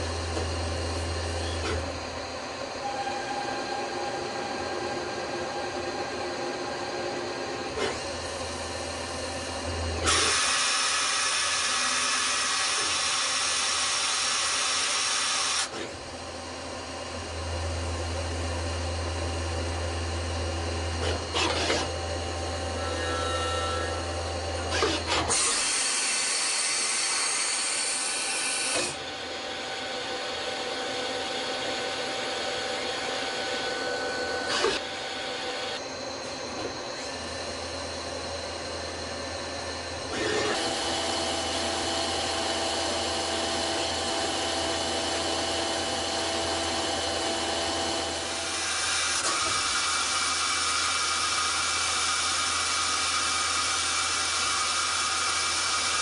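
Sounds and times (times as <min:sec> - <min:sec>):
lathe machine humming: 0:00.0 - 0:56.0.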